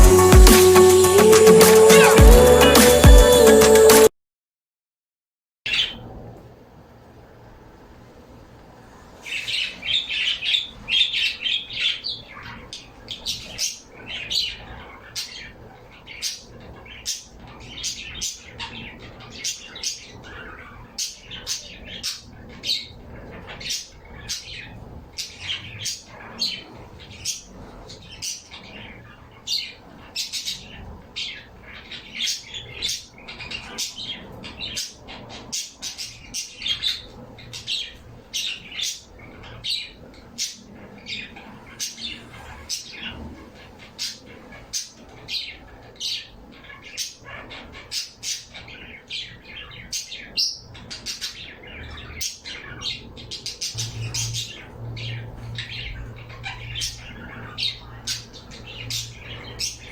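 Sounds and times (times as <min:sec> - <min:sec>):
pet birds chirping and squawking: 0:05.7 - 0:06.1, 0:09.2 - 0:59.9.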